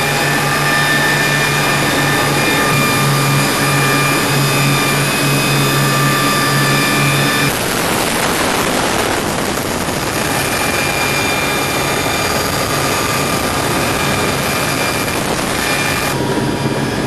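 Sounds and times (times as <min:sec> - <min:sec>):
helicopter engines and rotor rush: 0:00.0 - 0:17.0
high whining tones: 0:00.0 - 0:17.0
low pulsing hum: 0:00.0 - 0:17.0.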